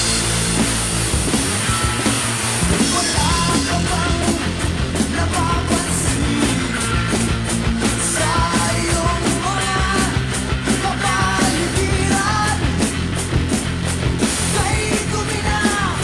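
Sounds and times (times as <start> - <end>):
drum kit with cymbals: 0.0 - 16.0
rock music: 0.0 - 16.0.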